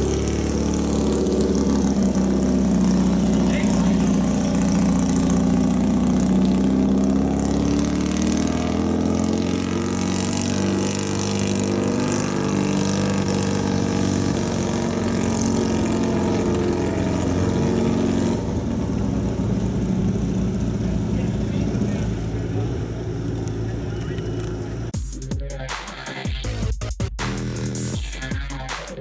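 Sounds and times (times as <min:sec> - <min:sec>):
race car engine running: 0:00.0 - 0:25.0.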